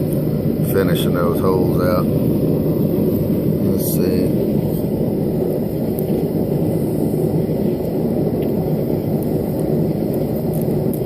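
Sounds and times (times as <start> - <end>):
forge burner roaring: 0.0 - 11.0.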